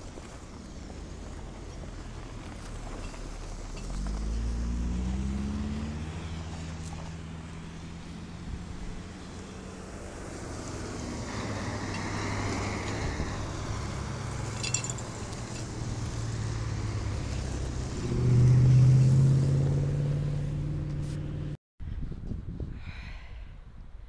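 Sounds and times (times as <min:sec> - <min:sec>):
vehicle engine humming: 0:00.0 - 0:21.6.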